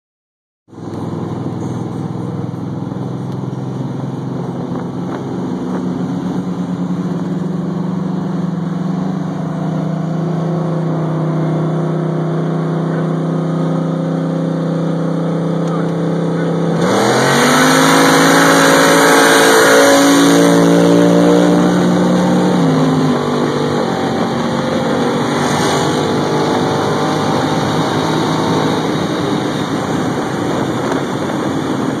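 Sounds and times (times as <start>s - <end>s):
engine at full throttle: 0.7s - 32.0s
wind and road noise: 0.7s - 32.0s.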